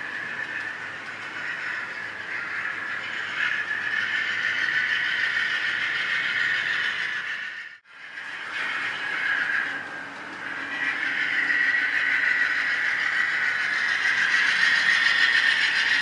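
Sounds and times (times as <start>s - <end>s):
model train cars rolling on track: 0.0s - 16.0s.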